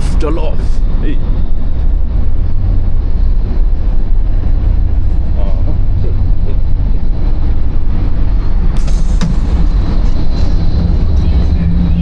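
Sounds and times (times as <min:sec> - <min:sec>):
train rumbling at speed: 0:00.0 - 0:12.0.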